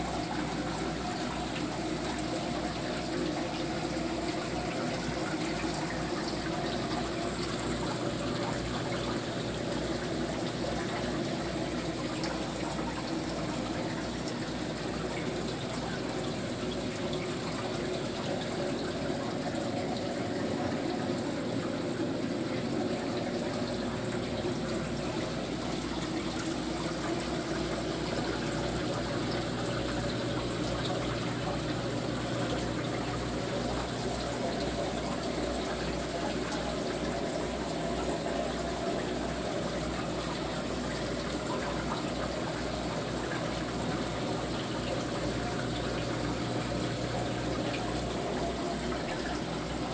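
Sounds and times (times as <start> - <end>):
water rushing and trickling: 0.0 - 49.9.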